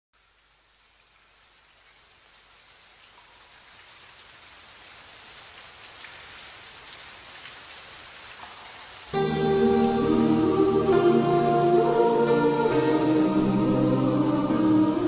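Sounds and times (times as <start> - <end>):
steady rain: 0.2 - 15.0.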